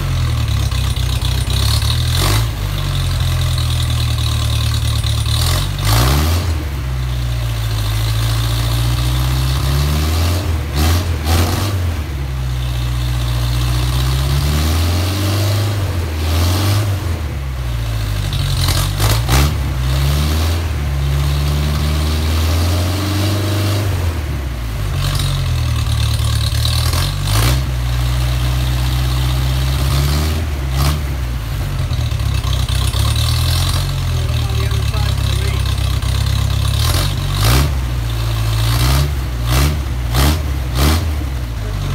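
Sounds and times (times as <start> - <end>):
car engine revving and idling: 0.0 - 41.9.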